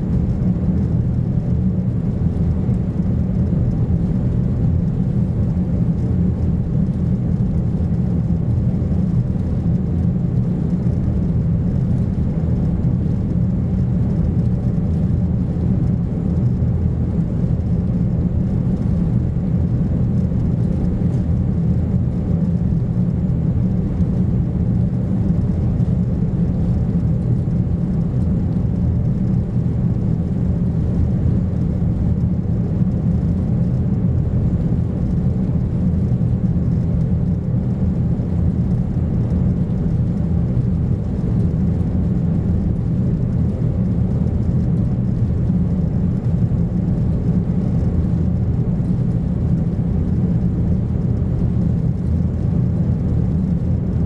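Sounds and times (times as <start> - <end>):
low engine drone in ferry cabin: 0.0 - 54.0.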